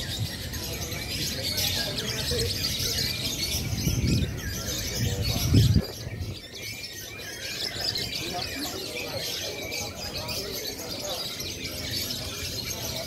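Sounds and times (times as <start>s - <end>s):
lovebirds chirping and trilling: 0.0s - 13.0s.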